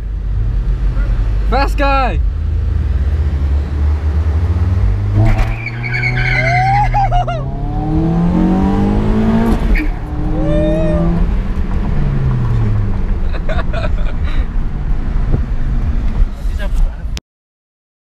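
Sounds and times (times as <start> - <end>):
car engine accelerating hard: 2.2 - 16.9.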